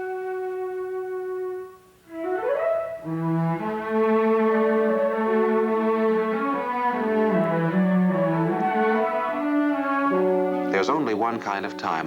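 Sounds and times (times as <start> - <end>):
orchestral strings: 2.1 - 12.0.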